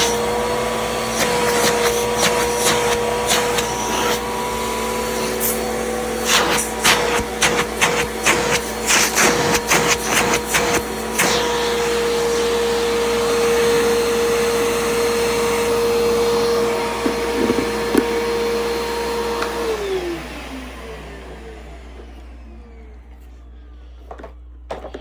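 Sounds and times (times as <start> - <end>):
vacuum cleaner motor whine: 0.0 - 25.0.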